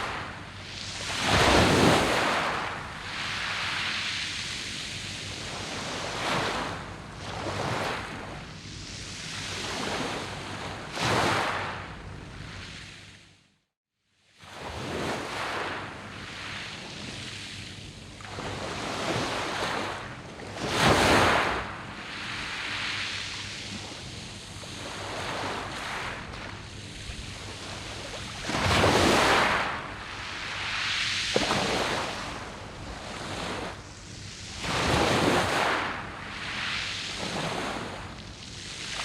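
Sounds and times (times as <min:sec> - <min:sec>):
waves washing over pebbles: 0:00.0 - 0:08.2, 0:08.8 - 0:11.9, 0:18.2 - 0:39.0.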